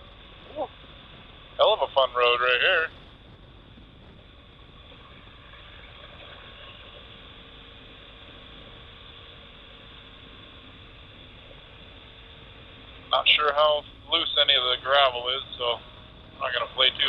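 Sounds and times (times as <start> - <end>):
motorcycle cruising drone: 0.0 - 17.0.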